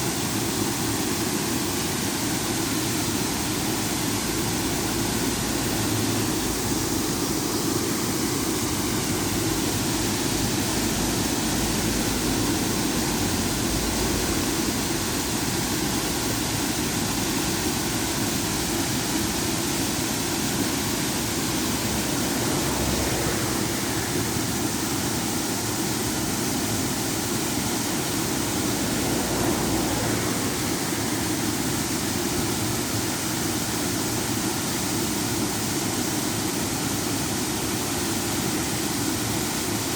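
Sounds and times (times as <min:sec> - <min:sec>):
waterfall water pouring: 0:00.0 - 0:39.9.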